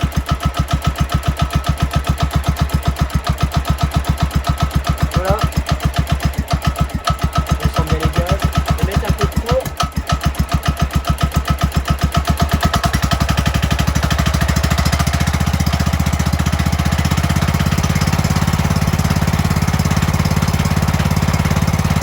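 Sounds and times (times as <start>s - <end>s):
mower engine running: 0.0s - 22.0s.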